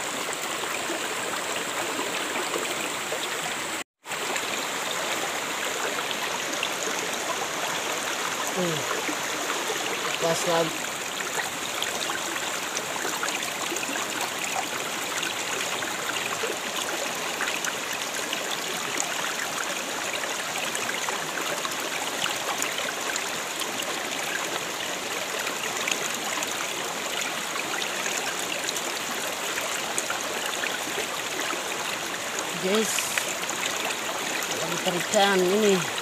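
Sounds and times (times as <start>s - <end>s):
creek water rushing over rocks: 0.0s - 36.0s.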